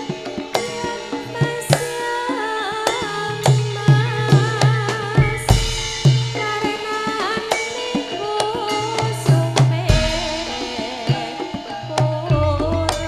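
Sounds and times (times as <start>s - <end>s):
gamelan gongs and metallophones: 0.0s - 13.0s
hand drum strokes: 0.0s - 13.0s.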